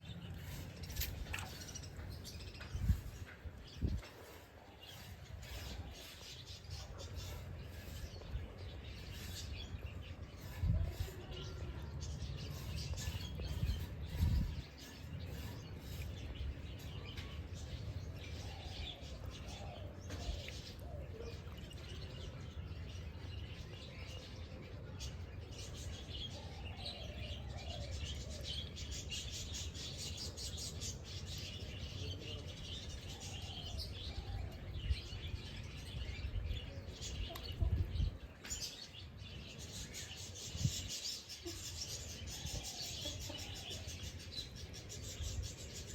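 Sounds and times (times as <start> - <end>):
birds chirping and calling: 0.0 - 45.9.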